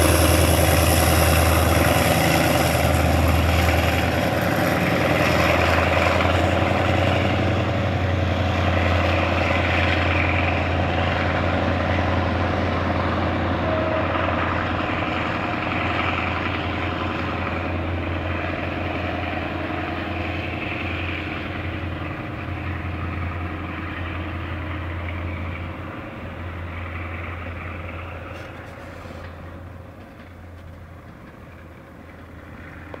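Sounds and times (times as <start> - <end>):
diesel locomotive engine drone: 0.0 - 33.0
train running noise: 0.0 - 33.0.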